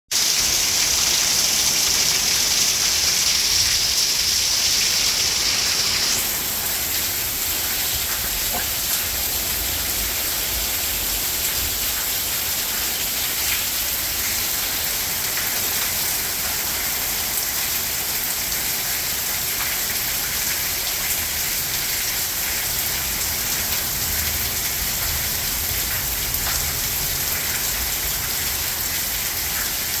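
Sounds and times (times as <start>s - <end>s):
steady rain hiss: 0.1s - 30.0s.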